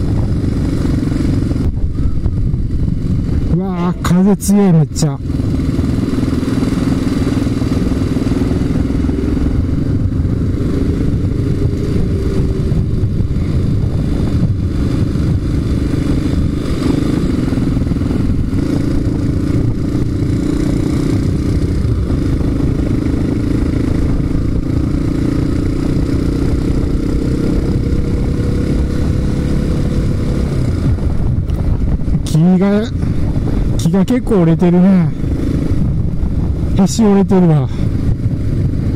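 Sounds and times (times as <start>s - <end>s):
motorcycle engine cruising: 0.0s - 38.9s
wind rumble on microphone: 0.0s - 38.9s.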